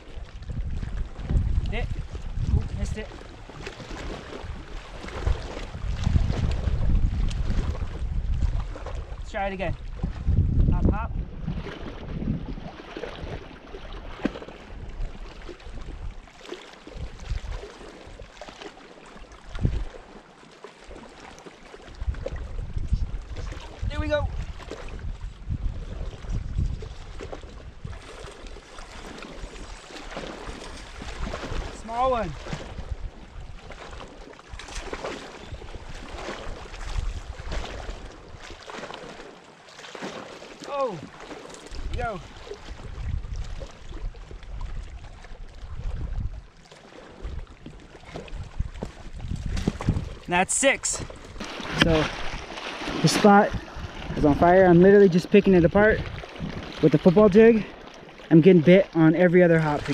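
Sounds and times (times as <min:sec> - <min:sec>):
wind buffeting microphone: 0:00.0 - 0:18.4, 0:19.5 - 0:20.0, 0:21.8 - 0:38.7, 0:40.8 - 0:46.6, 0:47.2 - 0:57.7.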